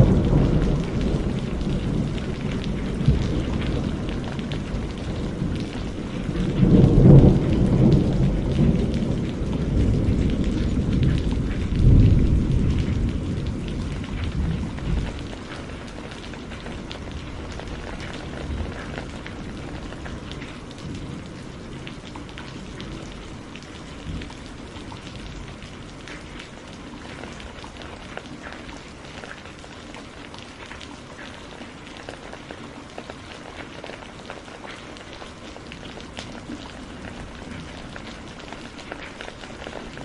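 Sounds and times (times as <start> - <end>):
raindrops ticking: 0.0 - 40.0
steady rain: 0.0 - 40.0.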